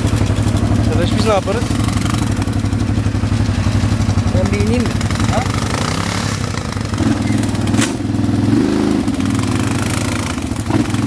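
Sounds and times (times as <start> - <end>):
atv engine revving: 0.0 - 11.0.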